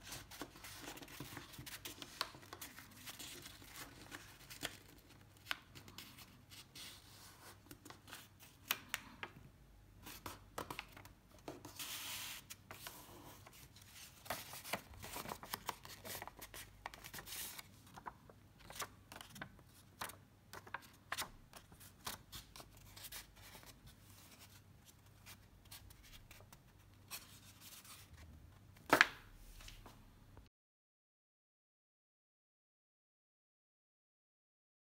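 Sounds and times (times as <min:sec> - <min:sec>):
paper rustling and crinkling: 0:00.0 - 0:09.4, 0:10.0 - 0:30.0.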